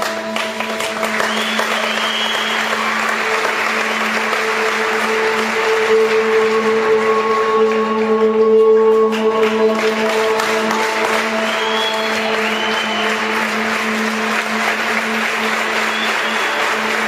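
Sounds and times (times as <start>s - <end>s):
audience applauding: 0.0s - 17.0s
music with long held notes: 0.0s - 17.0s.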